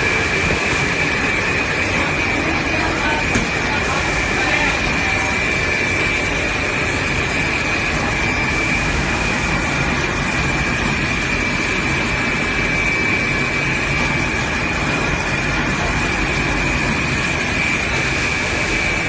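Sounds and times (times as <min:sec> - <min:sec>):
constant high whine: 0:00.0 - 0:19.0
workshop machinery drone: 0:00.0 - 0:19.0.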